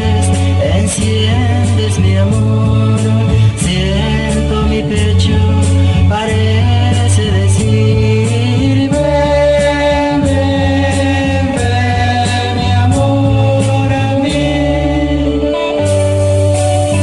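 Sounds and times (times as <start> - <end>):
bass line: 0.0 - 17.0
romantic band song: 0.0 - 17.0.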